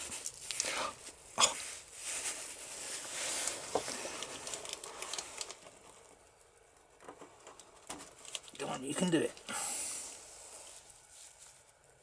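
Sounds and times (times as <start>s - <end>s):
light rustling of handling: 0.0s - 12.0s.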